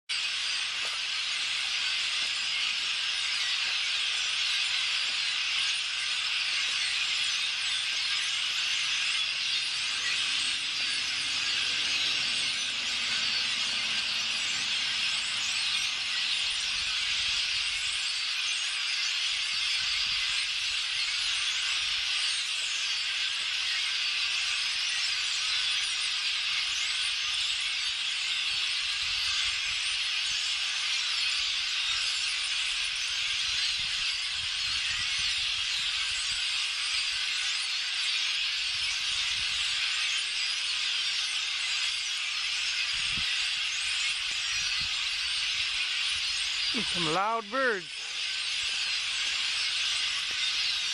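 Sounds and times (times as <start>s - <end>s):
flock of birds chirping: 0.1s - 50.9s.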